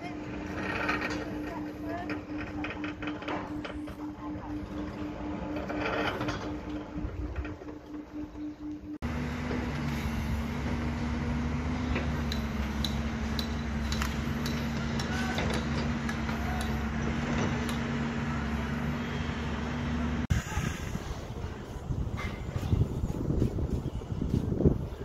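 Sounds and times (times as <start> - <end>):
machine engine running: 0.0 - 22.0.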